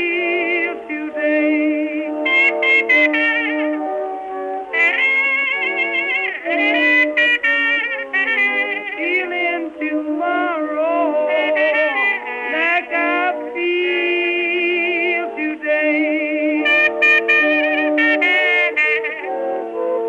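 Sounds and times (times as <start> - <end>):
instrumental blues music: 0.0 - 20.0.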